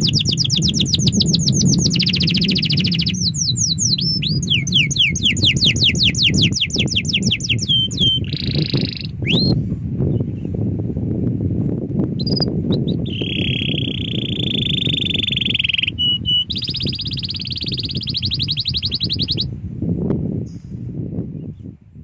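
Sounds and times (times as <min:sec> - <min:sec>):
canary singing: 0:00.0 - 0:10.5, 0:12.2 - 0:19.5
low rumbling noise: 0:00.0 - 0:22.0.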